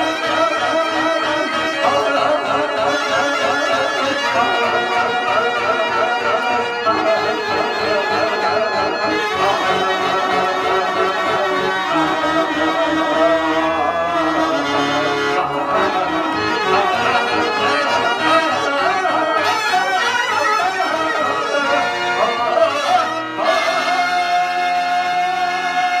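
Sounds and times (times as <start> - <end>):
harmonium music: 0.0 - 26.0
person singing: 0.0 - 26.0.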